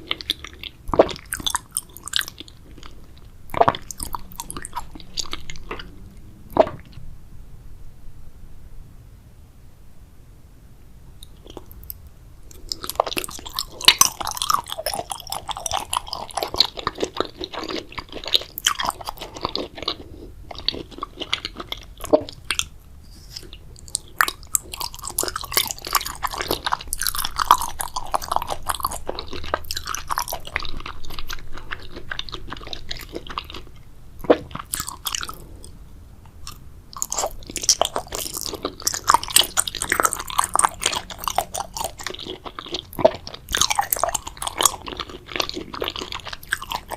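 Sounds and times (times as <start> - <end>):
wet crunchy chewing: 0.0 - 7.0, 11.2 - 46.9.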